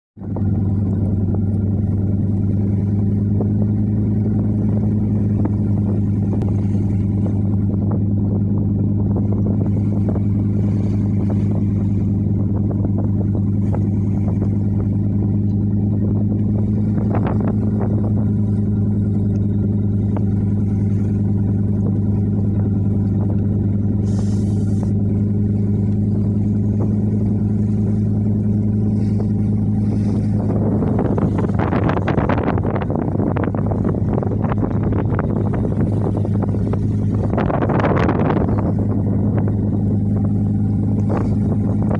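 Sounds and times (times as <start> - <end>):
diesel engine drone: 0.2 - 41.9.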